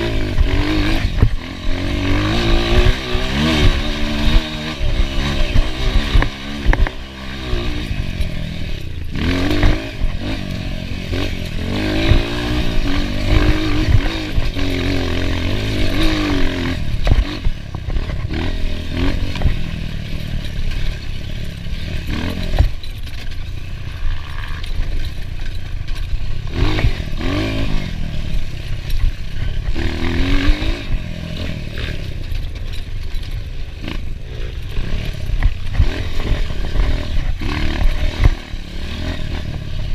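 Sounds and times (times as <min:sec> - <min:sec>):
dirt bike engine revving: 0:00.0 - 0:39.9
knocks and rattles: 0:00.1 - 0:39.9.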